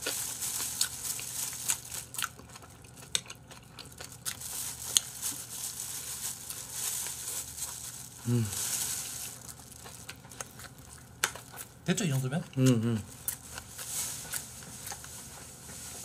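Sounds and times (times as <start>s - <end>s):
plastic bag crinkling: 0.0s - 12.1s, 13.1s - 16.0s.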